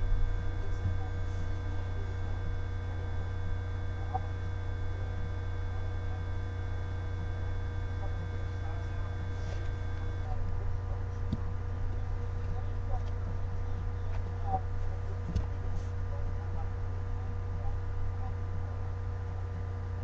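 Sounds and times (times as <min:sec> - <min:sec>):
electrical mains hum: 0:00.0 - 0:20.0
faint thin steady tones: 0:00.0 - 0:20.0.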